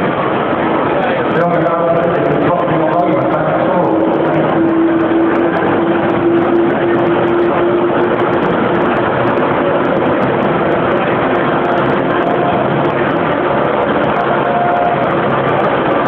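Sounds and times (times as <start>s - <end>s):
helicopter engine and rotor: 0.0s - 16.0s
steady hum: 0.0s - 16.0s.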